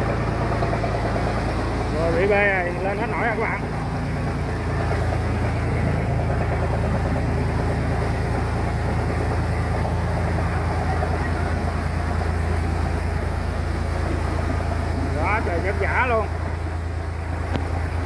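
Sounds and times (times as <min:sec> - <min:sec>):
boat engine droning: 0:00.0 - 0:18.0
churning water rushing: 0:00.0 - 0:18.0.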